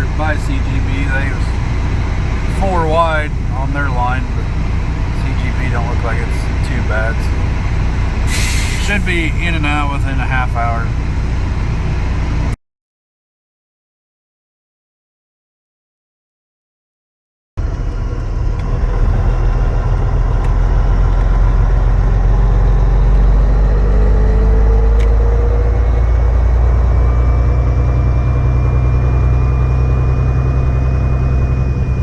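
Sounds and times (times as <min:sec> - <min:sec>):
faint steady whines: 0:00.0 - 0:12.6, 0:17.6 - 0:32.0
truck engine droning: 0:00.0 - 0:12.6, 0:17.6 - 0:32.0.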